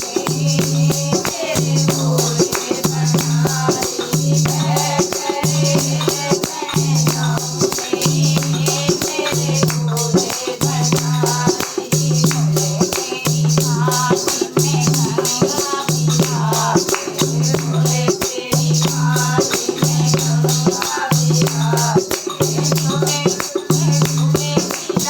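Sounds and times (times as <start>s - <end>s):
devotional music with percussion: 0.0s - 25.0s.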